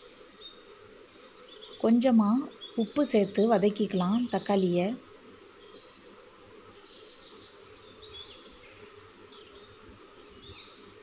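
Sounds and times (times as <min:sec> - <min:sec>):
low steady background noise: 0:00.0 - 0:11.0.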